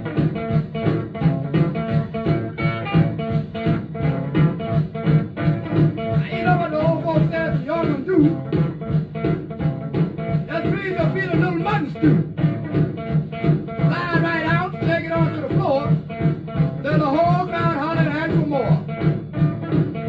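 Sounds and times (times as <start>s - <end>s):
record music with steady beat: 0.0s - 20.0s.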